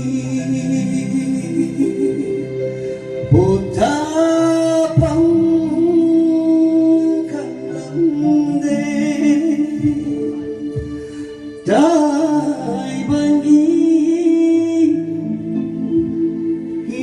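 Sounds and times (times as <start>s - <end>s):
music: 0.0s - 17.0s
person singing long held notes: 0.0s - 17.0s.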